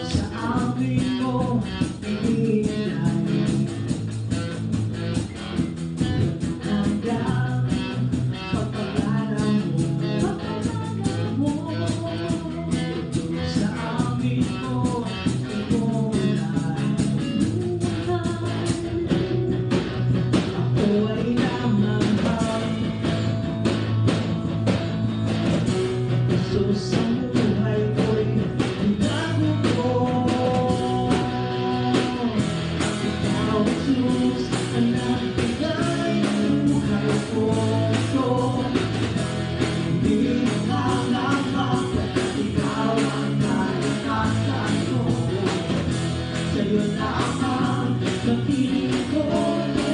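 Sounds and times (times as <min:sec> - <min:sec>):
band playing rock song: 0:00.0 - 0:49.9
steady drum beat: 0:00.0 - 0:49.9.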